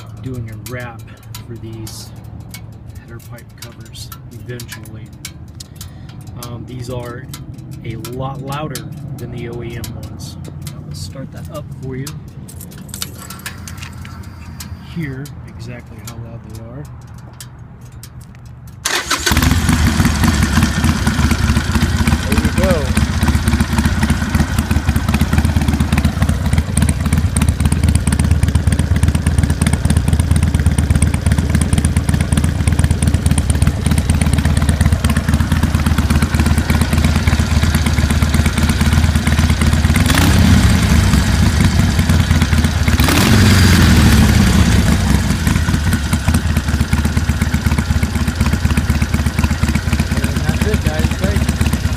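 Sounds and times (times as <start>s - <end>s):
motorcycle engine idling and revving: 0.0s - 51.9s.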